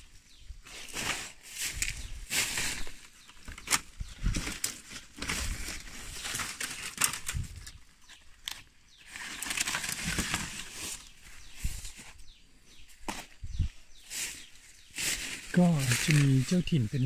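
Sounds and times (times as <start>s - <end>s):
dry leaves rustling and crackling: 0.7s - 12.2s, 14.1s - 17.0s.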